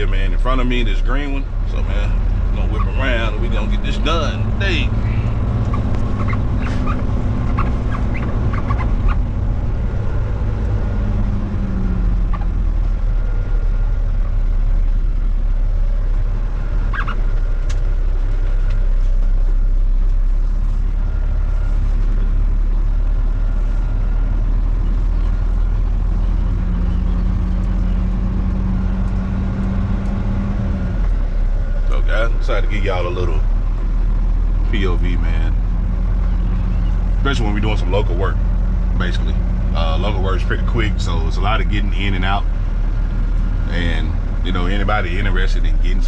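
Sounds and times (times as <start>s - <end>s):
diesel truck engine droning: 0.0s - 46.0s.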